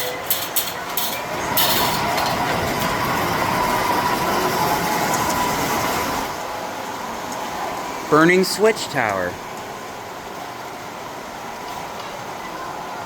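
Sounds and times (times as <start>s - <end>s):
miniature train rushing: 0.0s - 13.0s.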